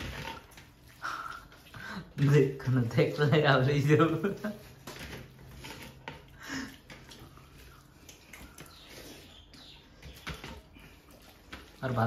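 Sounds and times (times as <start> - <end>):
hands squishing rice: 0.0 - 12.0.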